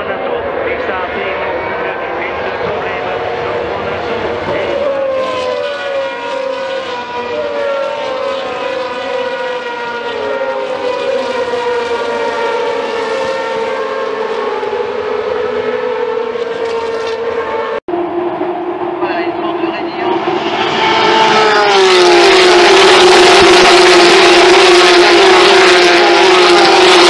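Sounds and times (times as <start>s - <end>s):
race car engines screaming: 0.0s - 27.0s.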